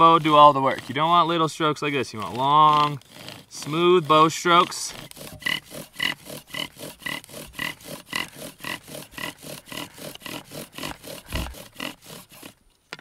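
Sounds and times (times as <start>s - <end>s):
bow drill grinding and squeaking: 0.0s - 13.0s.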